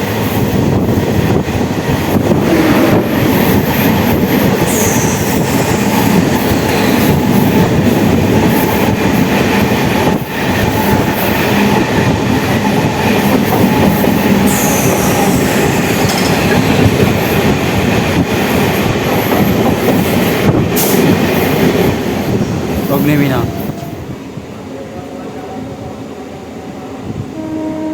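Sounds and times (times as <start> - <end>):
train wheels on rails: 0.0 - 24.6.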